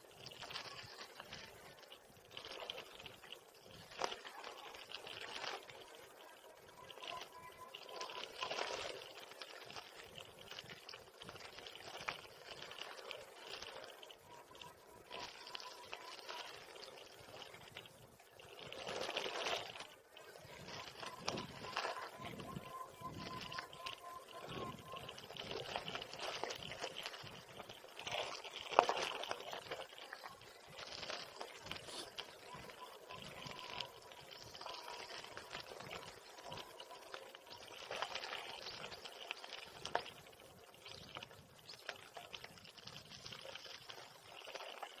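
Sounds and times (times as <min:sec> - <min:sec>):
bicycle tyres crunching on gravel: 0:00.0 - 0:45.0.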